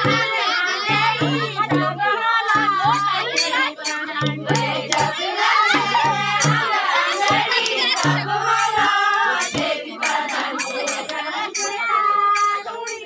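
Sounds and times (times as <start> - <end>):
hand drum beats: 0.0 - 13.0
women and children singing: 0.0 - 13.0.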